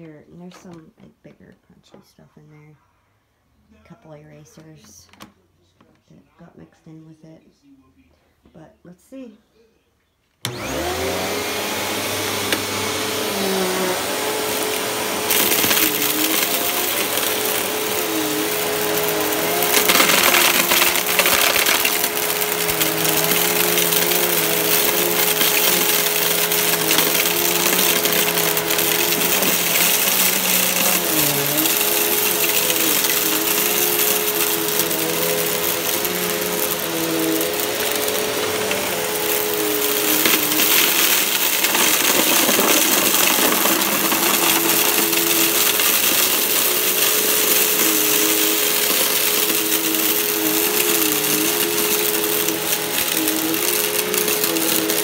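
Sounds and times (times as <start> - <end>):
vacuum cleaner motor whine: 10.4 - 55.0
vacuum crackling: 10.5 - 55.0.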